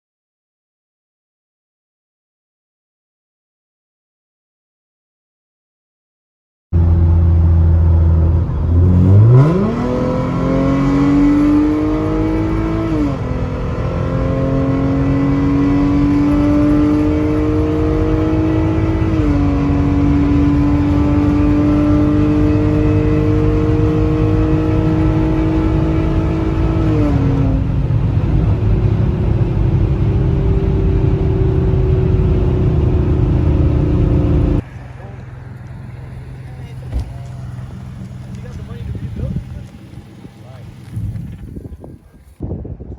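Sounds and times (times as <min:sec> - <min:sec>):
car engine accelerating: 0:06.8 - 0:42.4.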